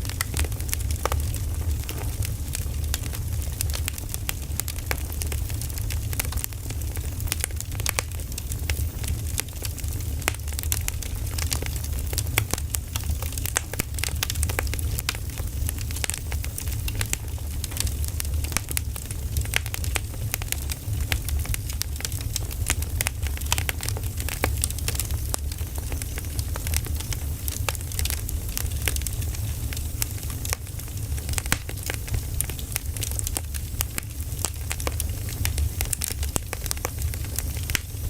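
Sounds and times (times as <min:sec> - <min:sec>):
fire low rumble: 0:00.0 - 0:38.0
firewood crackling and popping: 0:00.0 - 0:38.0.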